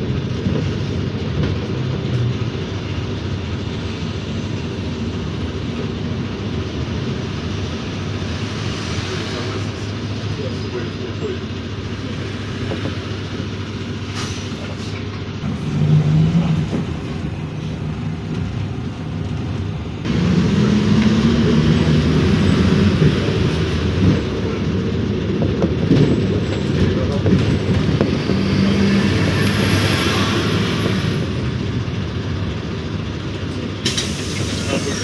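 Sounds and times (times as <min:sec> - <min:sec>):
bus engine hum: 0:00.0 - 0:35.0
road noise: 0:00.0 - 0:35.0.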